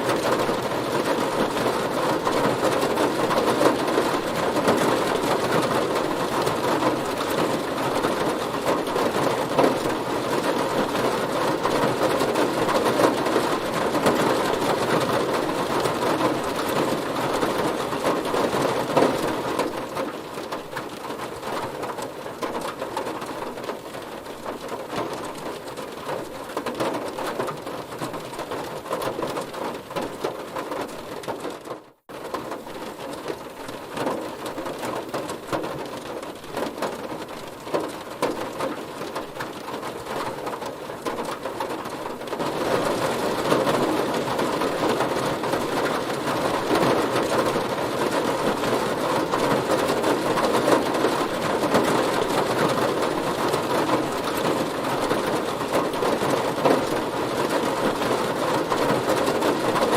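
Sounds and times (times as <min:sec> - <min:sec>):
heavy rain on a car: 0:00.0 - 0:59.9.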